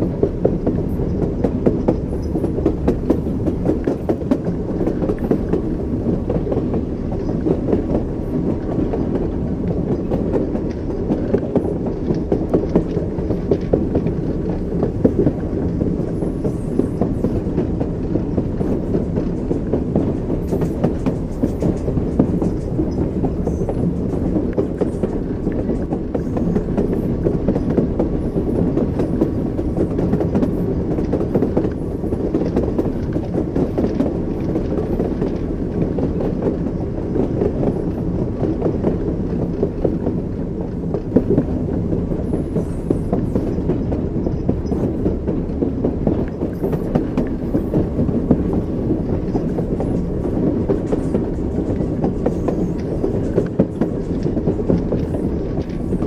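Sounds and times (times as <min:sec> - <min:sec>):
railway carriage rumble: 0:00.0 - 0:56.0
train wheels clickety-clack: 0:00.0 - 0:56.0.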